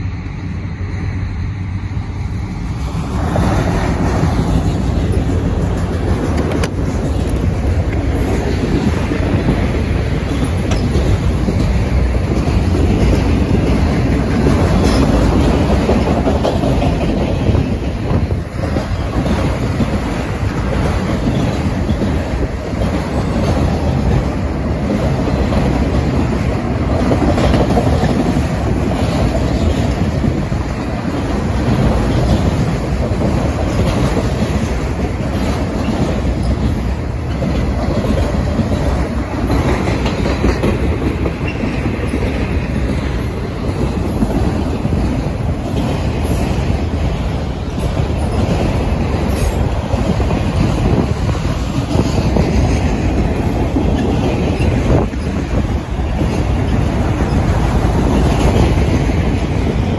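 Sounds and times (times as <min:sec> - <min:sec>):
freight train rumbling past: 0:00.0 - 0:59.9
steel wheels clattering on rails: 0:02.7 - 0:59.9.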